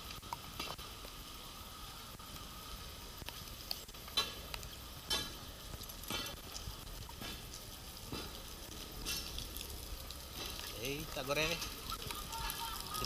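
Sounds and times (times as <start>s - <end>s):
rain on a wet street: 0.0s - 13.0s.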